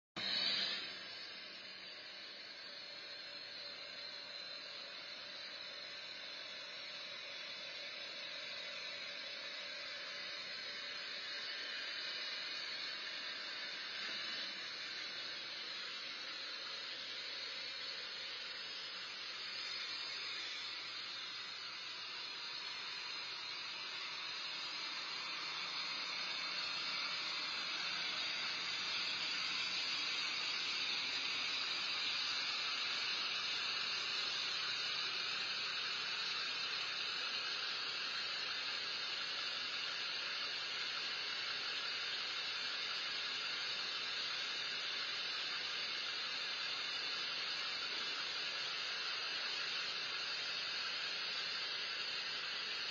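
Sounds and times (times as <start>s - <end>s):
steady hiss: 0.2s - 52.9s.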